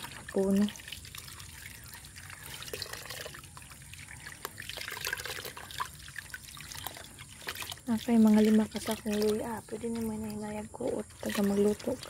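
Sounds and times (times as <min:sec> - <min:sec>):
water splashing in a bucket: 0:00.0 - 0:12.0.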